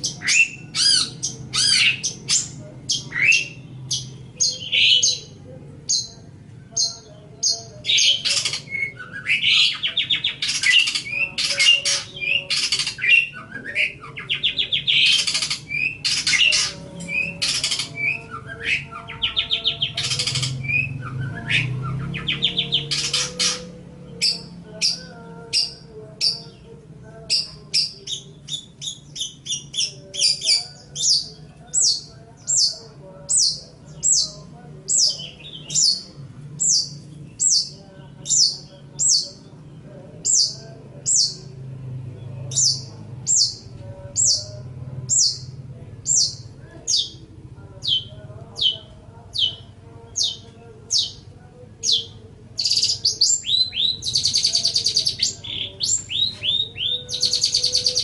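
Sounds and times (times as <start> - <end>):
shrike chirping and chattering: 0.0 - 39.5, 42.5 - 58.0.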